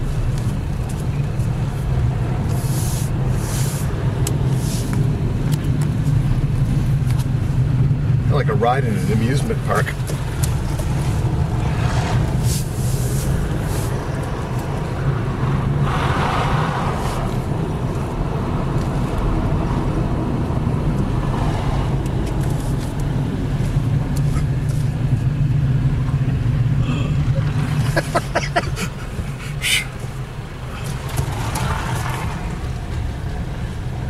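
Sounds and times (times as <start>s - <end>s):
engine and tyre rumble: 0.0s - 34.0s.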